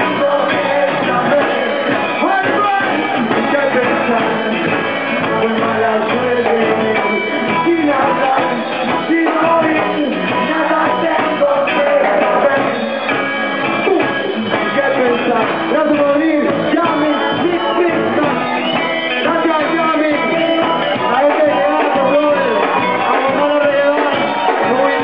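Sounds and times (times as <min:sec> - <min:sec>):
live reggae band playing: 0:00.0 - 0:25.0.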